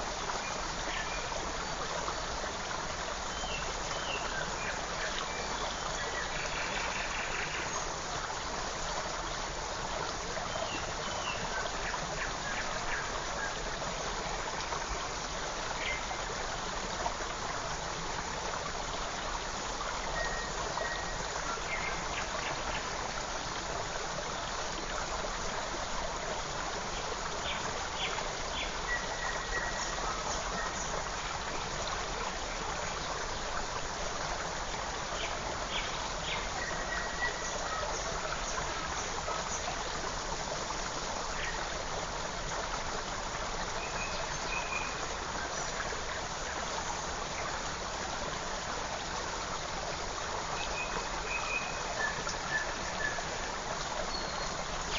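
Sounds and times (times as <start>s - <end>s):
forest stream flowing: 0.0s - 54.9s.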